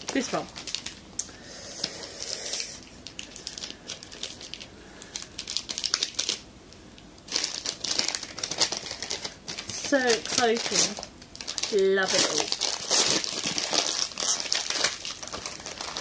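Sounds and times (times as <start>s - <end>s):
cellophane crinkling: 0.0s - 16.0s.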